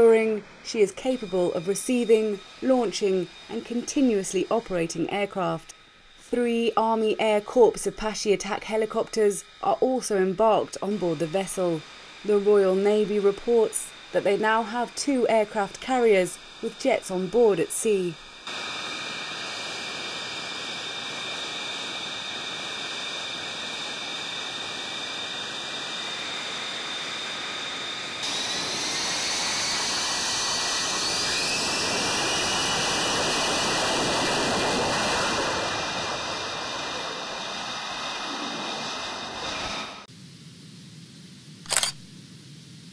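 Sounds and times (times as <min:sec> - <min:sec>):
jet engine whining: 0:00.0 - 0:40.1.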